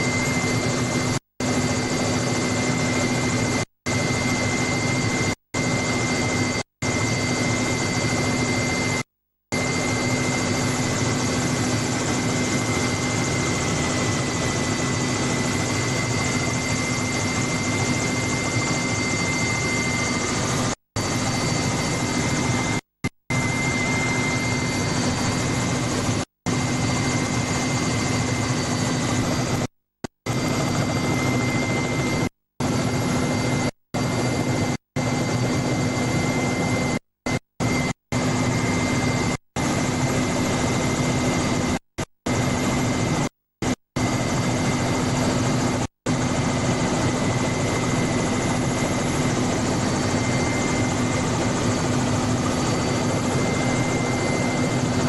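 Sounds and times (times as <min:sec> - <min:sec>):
helicopter engine and rotor drone: 0:00.0 - 0:55.0
high whine: 0:00.0 - 0:55.0.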